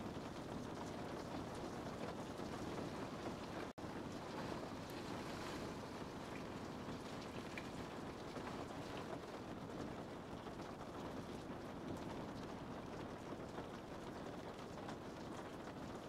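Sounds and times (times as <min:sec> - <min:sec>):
steady rain hiss: 0:00.0 - 0:15.9.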